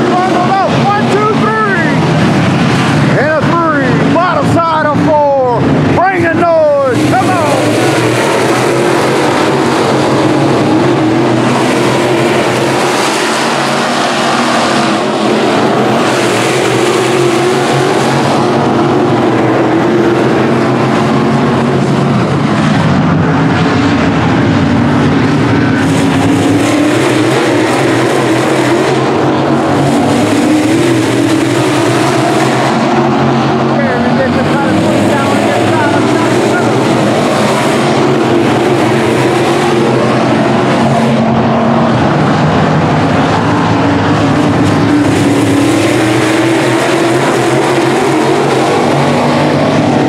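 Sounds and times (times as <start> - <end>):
race car engines roaring: 0.0 - 50.0.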